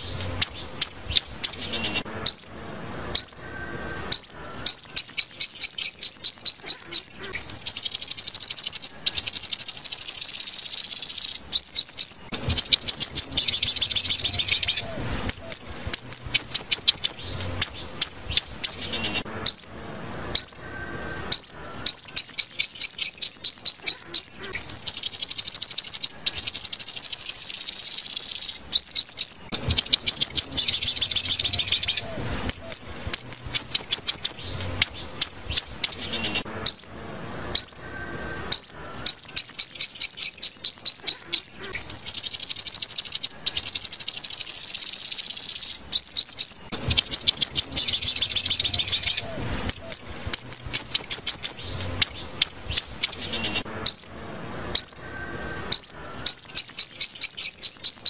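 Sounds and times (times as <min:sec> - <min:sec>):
recorded bird chirps and trills: 0:00.0 - 0:58.0.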